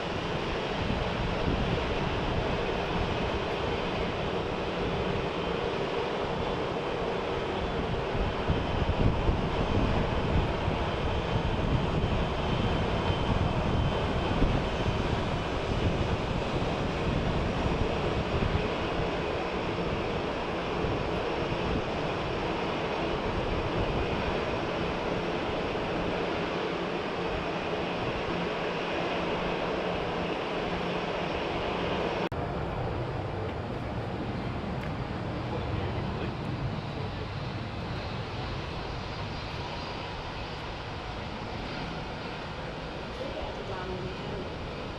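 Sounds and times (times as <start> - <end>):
jet engines rushing: 0.0 - 44.9
wind buffeting microphone: 0.0 - 44.9.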